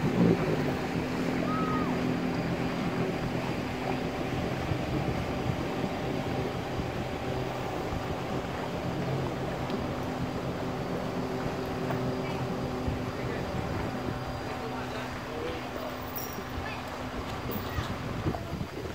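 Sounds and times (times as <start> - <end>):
low engine drone: 0.0 - 18.2.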